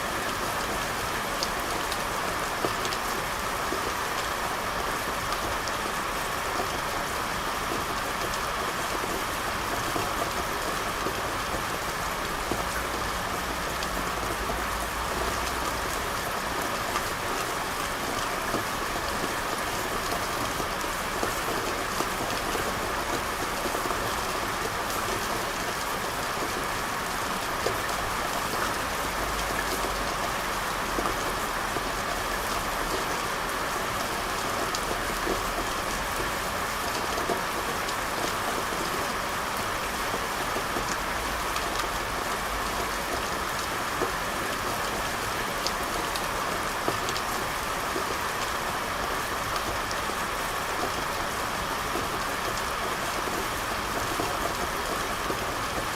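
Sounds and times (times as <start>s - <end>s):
rain falling on street: 0.0s - 55.9s.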